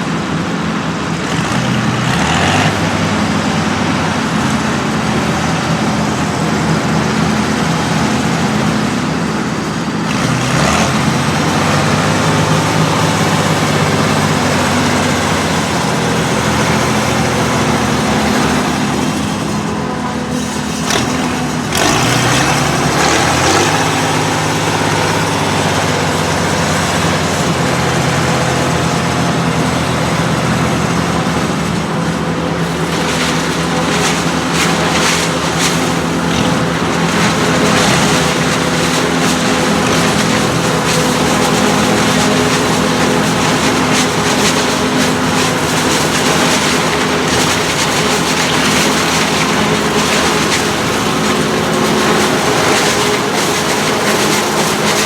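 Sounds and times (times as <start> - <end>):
harvesting machinery rushing: 0.0 - 55.0
tractor diesel engine under load: 0.0 - 55.0.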